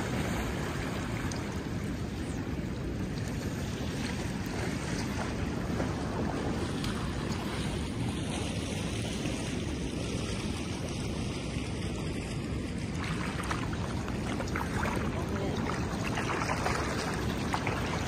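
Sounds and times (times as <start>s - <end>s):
fast-flowing river water: 0.0s - 18.0s
wind buffeting microphone: 0.0s - 18.0s.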